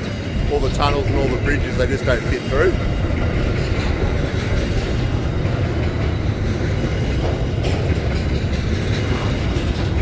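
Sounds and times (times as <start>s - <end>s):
train wheels rumbling and clattering: 0.0s - 10.0s.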